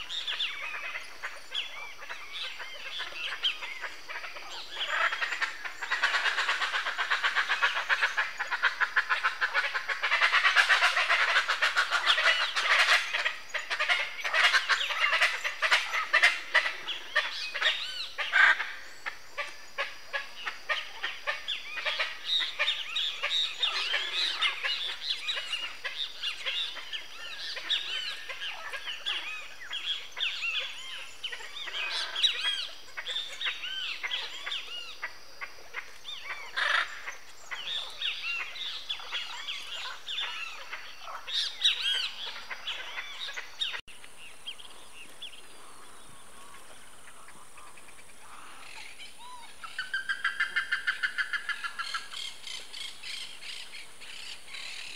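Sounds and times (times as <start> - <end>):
birds squawking and chirping: 0.0 - 54.9.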